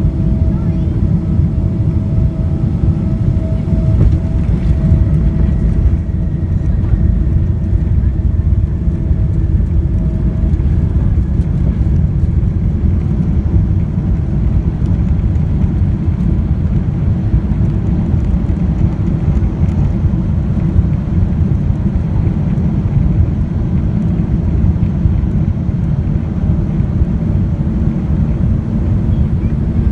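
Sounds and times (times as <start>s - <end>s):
airliner cabin rumble: 0.0s - 29.9s.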